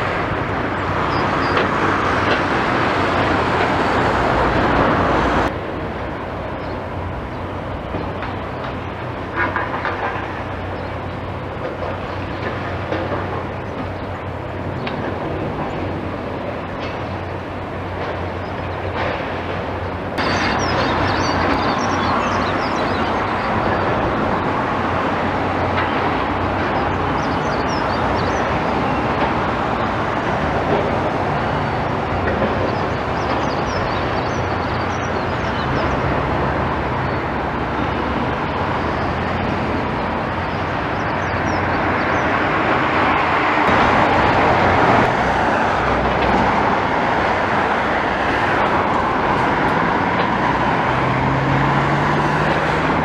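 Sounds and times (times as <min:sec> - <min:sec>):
moving vehicle rumble: 0:00.0 - 0:53.0.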